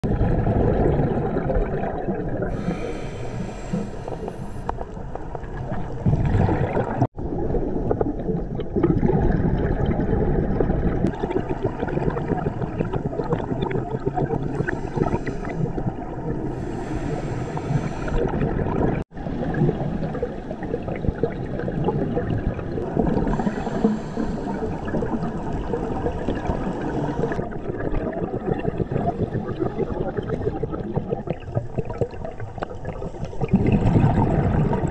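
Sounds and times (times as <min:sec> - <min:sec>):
underwater rumble: 0:00.0 - 0:34.9
regulator bubbles hissing: 0:00.1 - 0:34.9.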